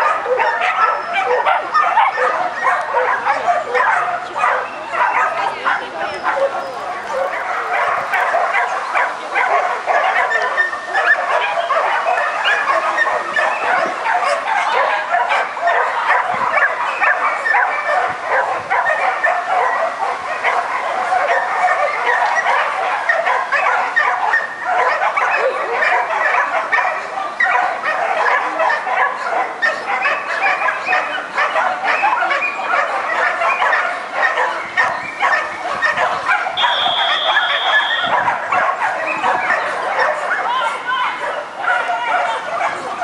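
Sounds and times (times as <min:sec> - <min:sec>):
dogs barking: 0:00.0 - 0:43.0.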